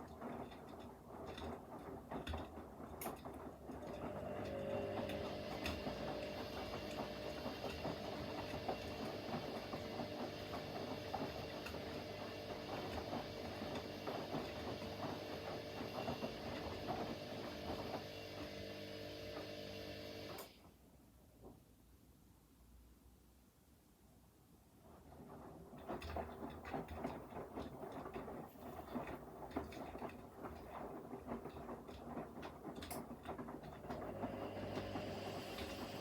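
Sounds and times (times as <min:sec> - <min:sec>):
washing machine running: 0:00.0 - 0:20.7, 0:24.8 - 0:36.0.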